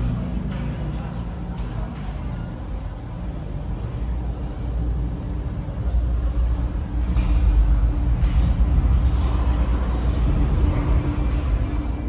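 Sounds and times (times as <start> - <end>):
vehicle running low rumble: 0.0 - 12.0.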